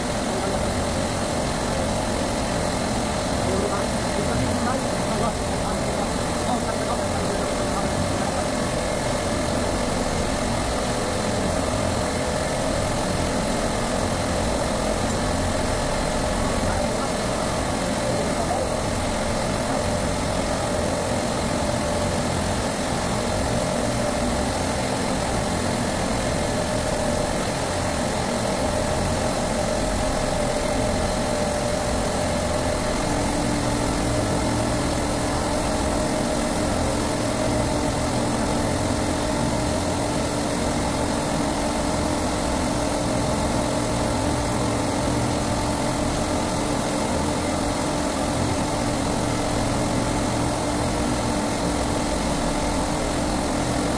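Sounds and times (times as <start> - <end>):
refrigeration compressors droning: 0.0 - 53.9.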